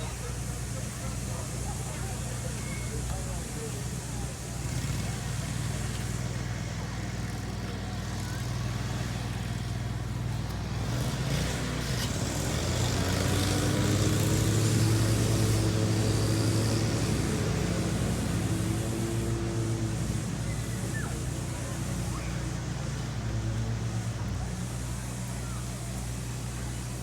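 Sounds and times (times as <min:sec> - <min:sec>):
engine humming passing by: 0:00.0 - 0:27.0.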